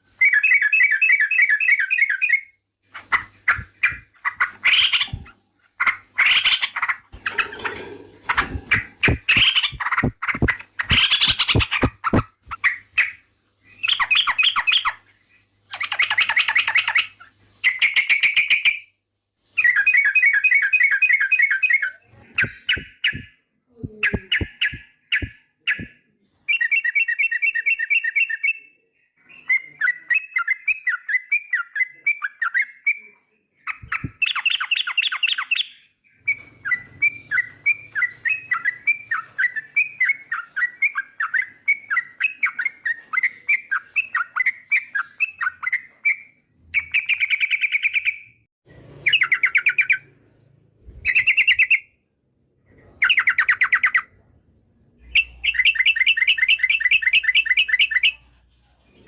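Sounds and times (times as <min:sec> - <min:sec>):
bird chattering song: 0:00.2 - 0:18.9, 0:19.6 - 0:48.4, 0:49.1 - 0:52.0, 0:52.8 - 0:54.2, 0:55.0 - 0:59.0.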